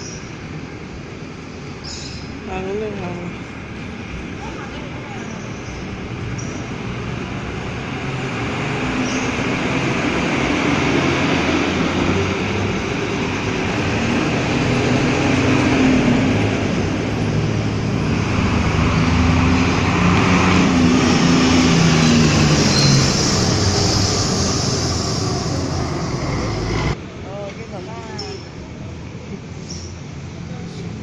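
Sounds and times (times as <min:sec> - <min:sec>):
heavy vehicles passing: 0:02.4 - 0:28.0.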